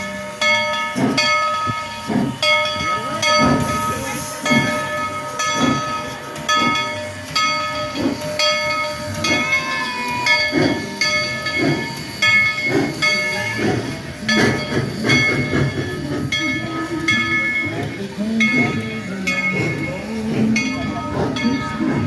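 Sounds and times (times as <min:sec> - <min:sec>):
locomotive bell ringing: 0:00.0 - 0:22.0
steam hissing: 0:00.0 - 0:22.0.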